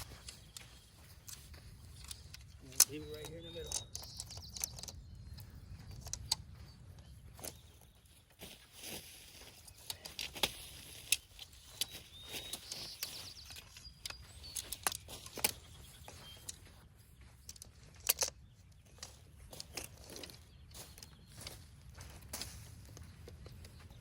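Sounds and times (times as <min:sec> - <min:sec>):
camping gear clicking and rustling: 0:00.0 - 0:24.0.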